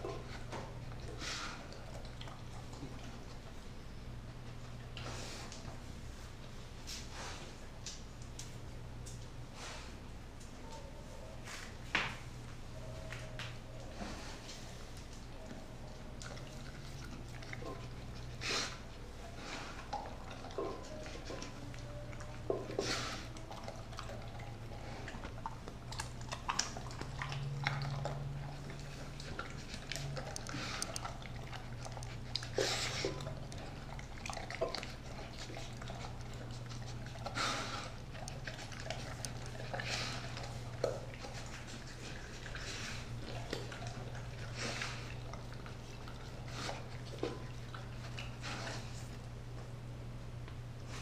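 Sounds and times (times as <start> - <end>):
dog eating wet food: 0.0 - 5.8, 13.7 - 49.5.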